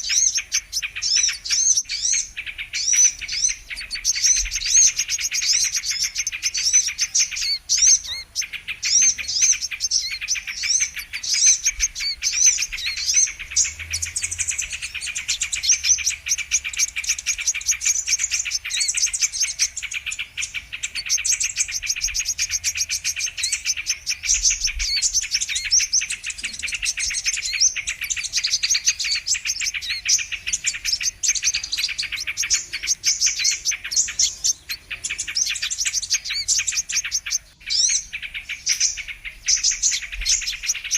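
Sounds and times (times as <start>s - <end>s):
sunbirds chirping: 0.0s - 40.9s.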